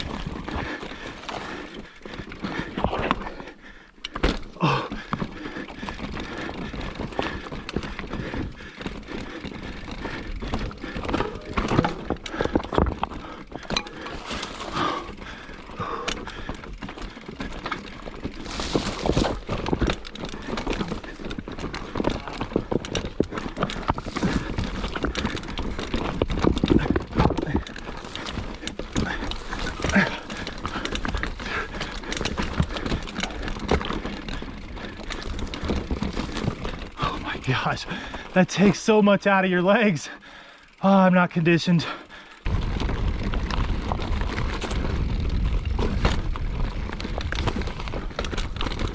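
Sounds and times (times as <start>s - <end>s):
bike rattling over rocks: 0.0s - 48.9s.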